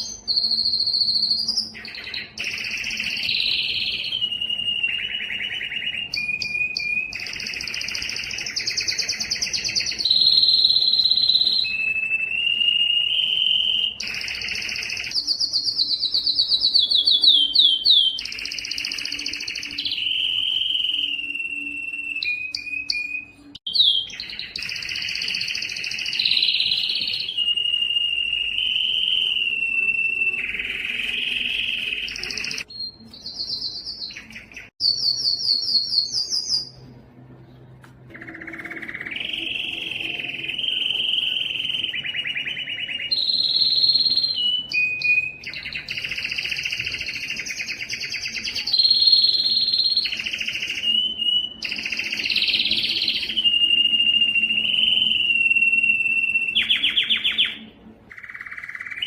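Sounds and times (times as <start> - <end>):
canary singing trills: 0.0 - 37.0, 38.1 - 59.0.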